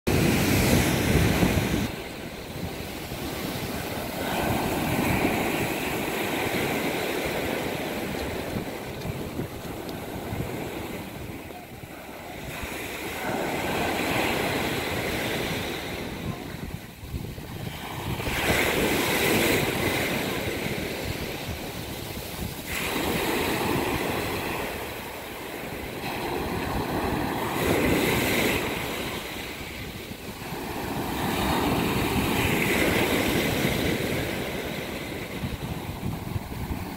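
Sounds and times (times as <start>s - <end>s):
waves breaking on a beach: 0.1s - 36.9s.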